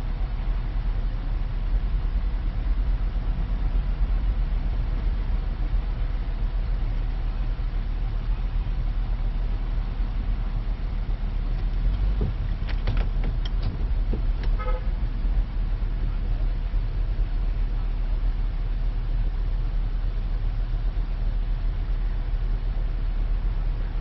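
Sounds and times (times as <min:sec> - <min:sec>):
car rumble from inside cabin: 0:00.0 - 0:24.0.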